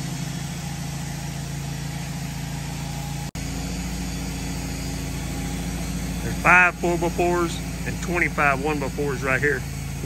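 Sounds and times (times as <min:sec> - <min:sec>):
sawmill engine running: 0:00.0 - 0:10.0.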